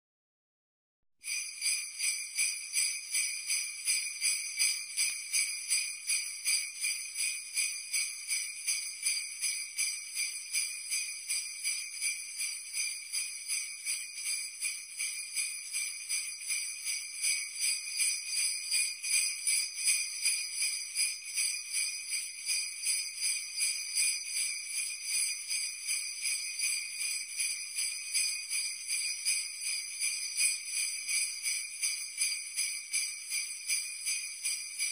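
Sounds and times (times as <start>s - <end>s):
sleigh bells jingling: 1.2s - 34.9s.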